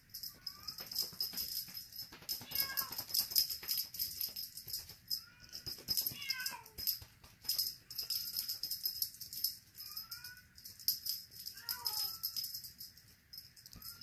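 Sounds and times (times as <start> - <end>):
rattling cat toy jingling: 0.0 - 14.0.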